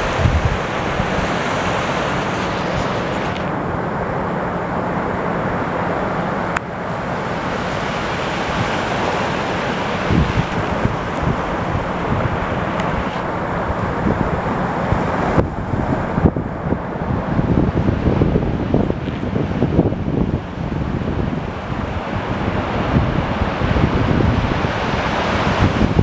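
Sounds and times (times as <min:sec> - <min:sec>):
ocean surf: 0:00.0 - 0:26.0
wind buffeting microphone: 0:00.0 - 0:26.0.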